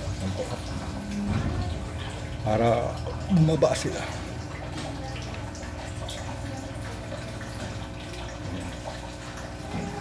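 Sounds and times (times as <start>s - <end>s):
aquarium air pump humming: 0.0s - 10.0s
water dripping: 0.0s - 10.0s
water trickling: 0.0s - 10.0s.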